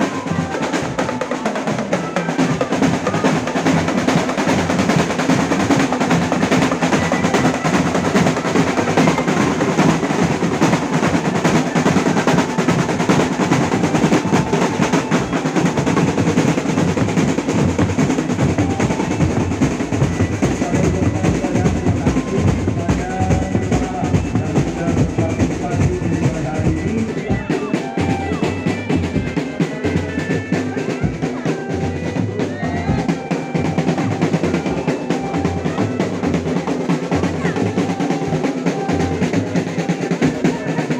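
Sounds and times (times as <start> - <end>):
fast drum rolls: 0.0 - 40.9.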